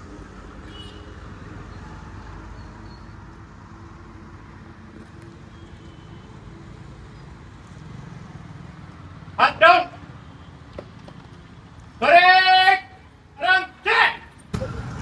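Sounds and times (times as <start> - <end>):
motor vehicles rumbling: 0.0 - 15.0.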